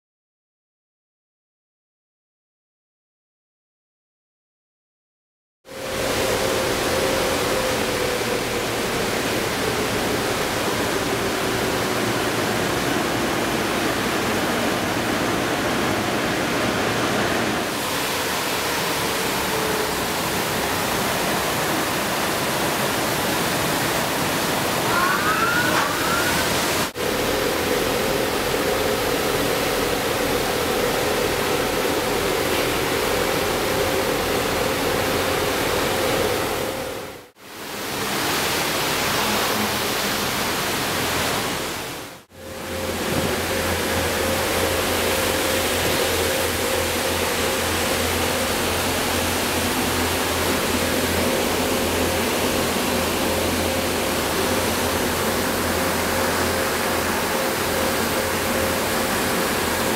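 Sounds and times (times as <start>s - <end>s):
low fan hum: 5.7s - 59.9s.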